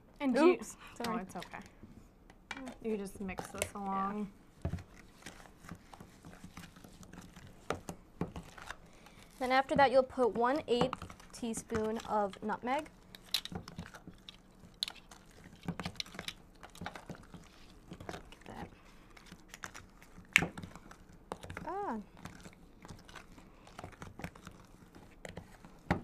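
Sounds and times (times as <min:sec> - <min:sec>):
spatula scraping cookie dough: 0:03.0 - 0:12.5, 0:13.7 - 0:26.0.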